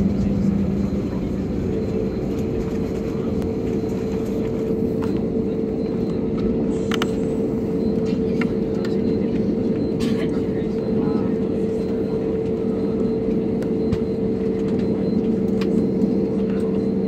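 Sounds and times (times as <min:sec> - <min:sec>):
aircraft engine hum and whine: 0:00.0 - 0:17.0.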